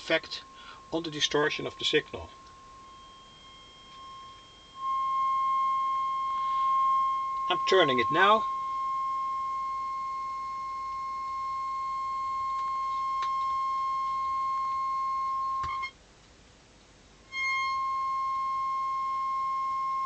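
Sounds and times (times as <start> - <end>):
high-pitched test tone: 0.0 - 15.9, 17.3 - 20.0.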